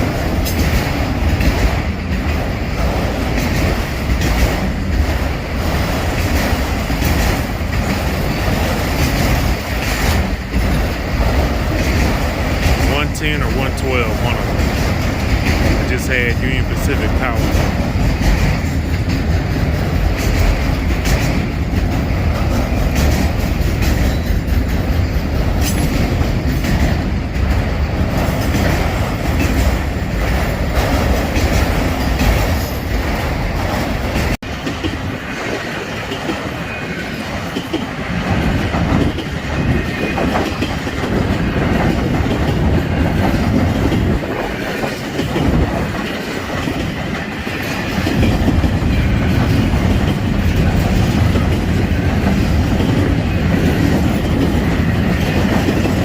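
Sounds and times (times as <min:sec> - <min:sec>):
freight train wheels clicking on rails: 0:00.0 - 0:56.0.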